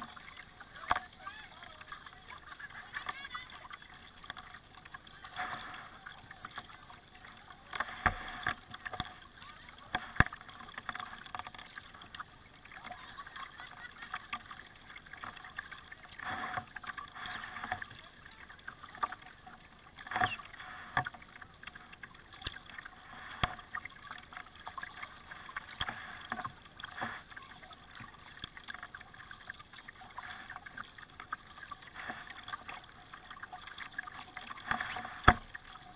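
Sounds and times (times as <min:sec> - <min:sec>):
paddle blades dipping: 0:00.0 - 0:35.9
water washing against hull: 0:00.0 - 0:35.9.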